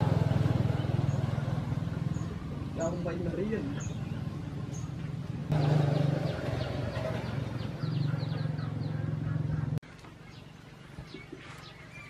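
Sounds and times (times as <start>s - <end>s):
bird chirping: 0.5s - 12.0s.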